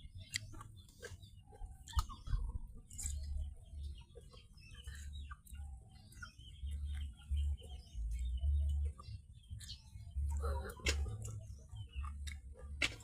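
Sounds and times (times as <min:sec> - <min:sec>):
birds chirping and clucking: 0:00.0 - 0:13.0.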